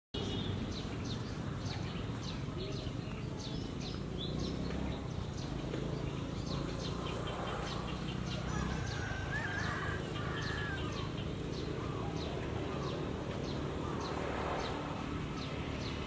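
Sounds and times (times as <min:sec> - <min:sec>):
low outdoor background hum: 0:00.2 - 0:16.0
small birds chirping: 0:00.2 - 0:16.0.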